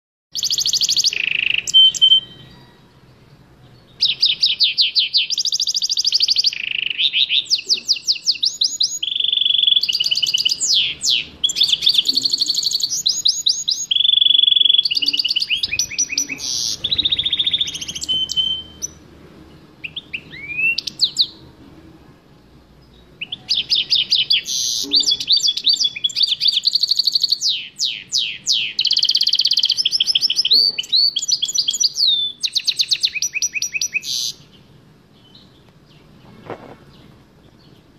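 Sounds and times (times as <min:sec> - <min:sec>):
canary singing trills: 0:00.3 - 0:21.6, 0:22.8 - 0:37.9.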